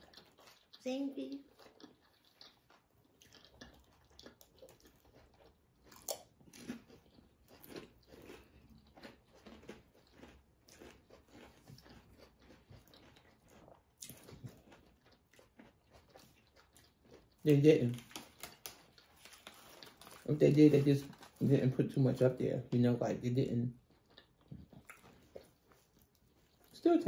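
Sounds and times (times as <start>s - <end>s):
chewing crunchy chips: 0.0s - 27.0s.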